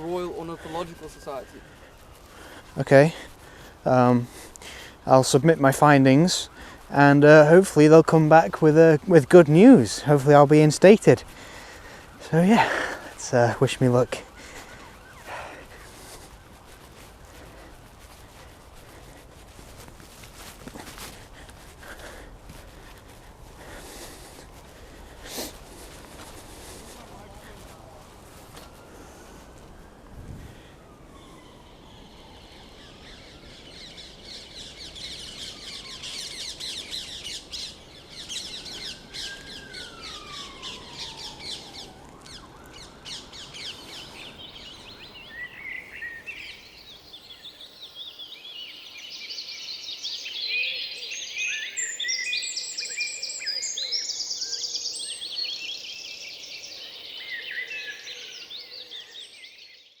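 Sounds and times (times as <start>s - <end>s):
outdoor background hiss: 0.0s - 59.6s
songbirds chirping and trilling: 0.0s - 60.0s.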